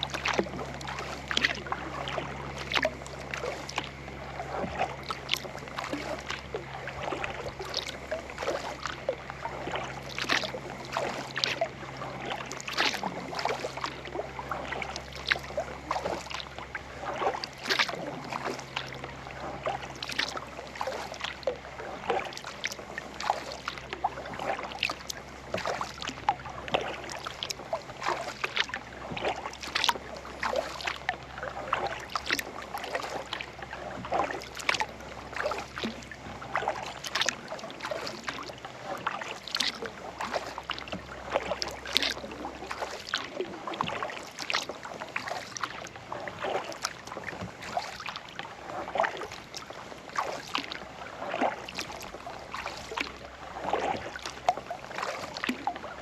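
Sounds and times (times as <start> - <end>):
kayak paddle strokes in water: 0.0 - 56.0
paddle splash: 0.0 - 56.0
water dripping off paddle: 0.0 - 56.0.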